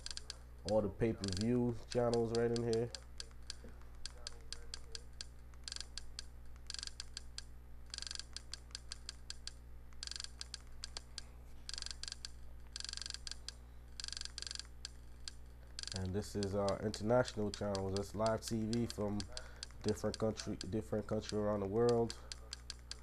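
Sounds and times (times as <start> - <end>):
rapid small clicks: 0.0 - 23.0
steady low hum: 0.0 - 23.0.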